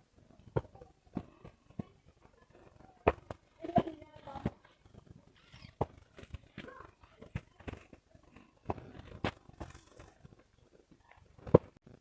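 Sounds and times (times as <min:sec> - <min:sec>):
faint voices: 0:00.1 - 0:11.4.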